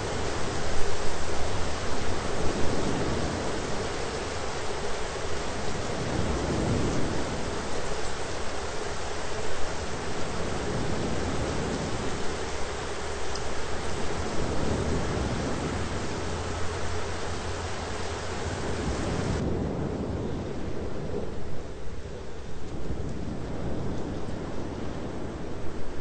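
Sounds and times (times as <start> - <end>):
heavy rain: 0.0 - 26.0
low thunder rumbling: 0.0 - 26.0.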